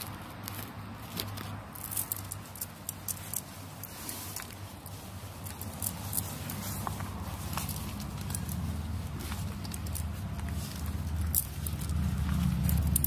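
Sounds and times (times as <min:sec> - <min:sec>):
hands patting wet fabric: 0:00.0 - 0:13.0
low steady hum: 0:00.0 - 0:13.0.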